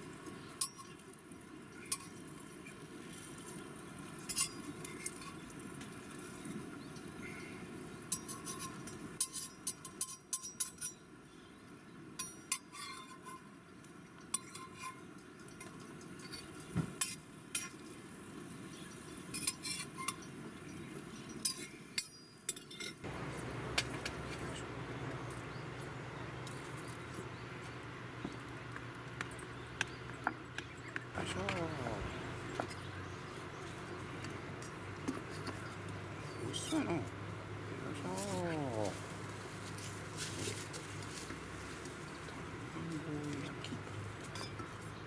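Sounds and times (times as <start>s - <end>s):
steady background noise: 0.0s - 45.0s.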